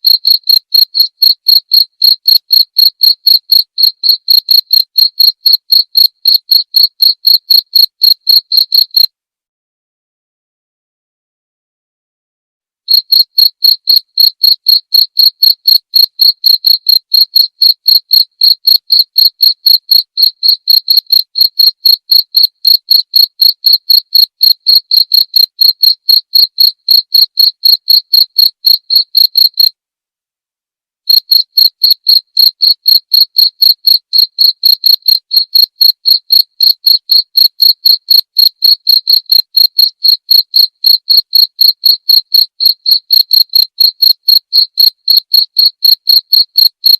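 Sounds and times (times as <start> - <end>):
cricket chirping: 0.0 - 9.1, 12.9 - 29.7, 31.1 - 43.7, 44.3 - 46.8.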